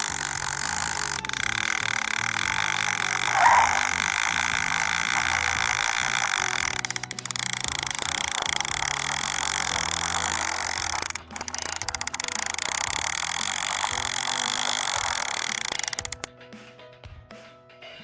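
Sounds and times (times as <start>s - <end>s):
tinny electronic tune: 0.0s - 16.3s
toy helicopter motor whirring: 0.0s - 16.3s.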